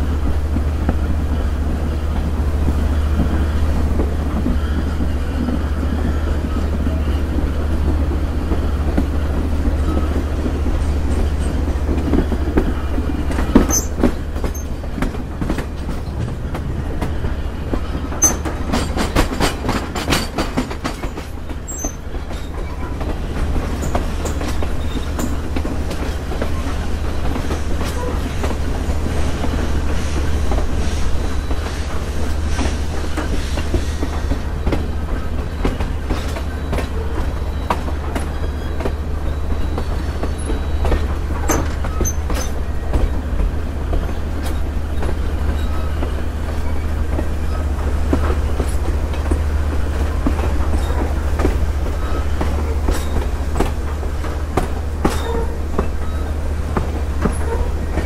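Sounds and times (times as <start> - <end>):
train rumble: 0.0 - 58.0
wheels clattering on rails: 0.0 - 58.0.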